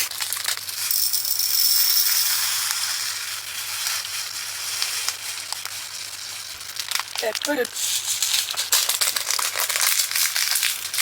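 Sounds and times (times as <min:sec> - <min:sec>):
tiny beads pouring into container: 0:00.0 - 0:11.0.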